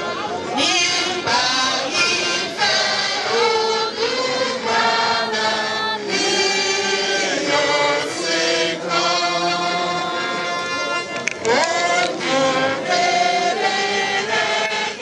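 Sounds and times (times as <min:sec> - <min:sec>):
group singing a hymn: 0:00.5 - 0:15.0.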